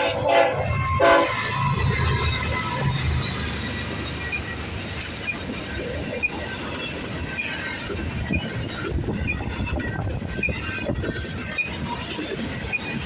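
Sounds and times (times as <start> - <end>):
freight train wheels clattering: 0.0 - 13.0
high-pitched wheel squeaks: 0.6 - 13.0.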